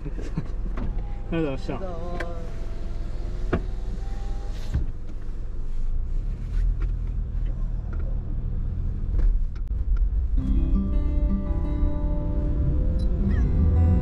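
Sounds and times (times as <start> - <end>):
van engine and tyres rumbling: 0.0 - 14.0.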